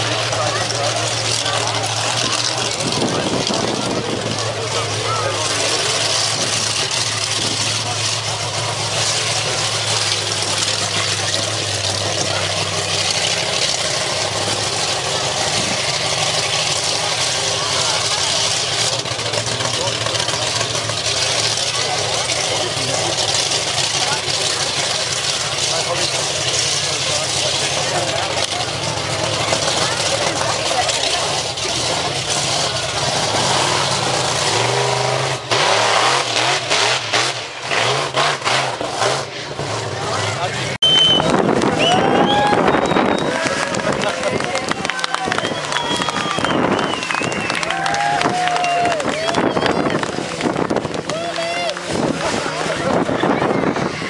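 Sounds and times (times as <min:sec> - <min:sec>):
monster truck engine running: 0:00.0 - 0:54.0.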